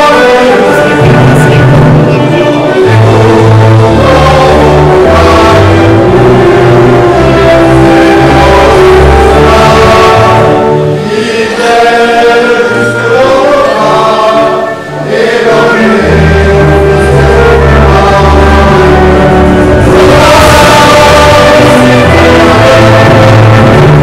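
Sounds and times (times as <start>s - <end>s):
loud music with singing and bass: 0.0s - 13.1s, 13.7s - 24.0s.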